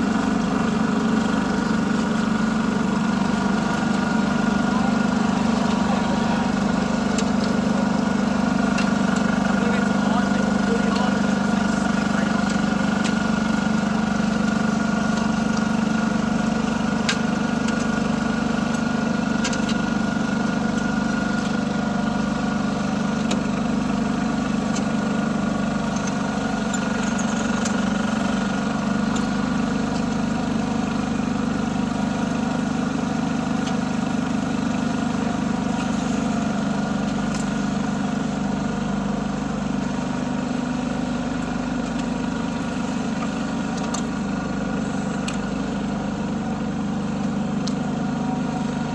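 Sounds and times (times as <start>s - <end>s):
paver engine hum: 0.0s - 48.9s.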